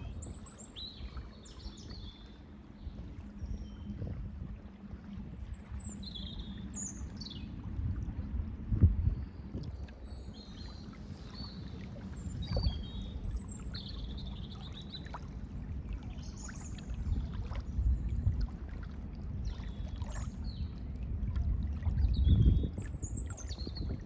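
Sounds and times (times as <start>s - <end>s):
water lapping at shore: 0.0s - 24.0s.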